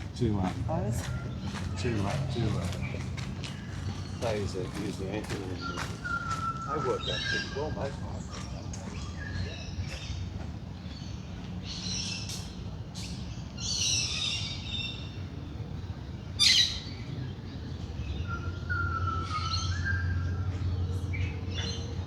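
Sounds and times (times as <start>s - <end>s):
wild birds calling: 0.0s - 22.0s.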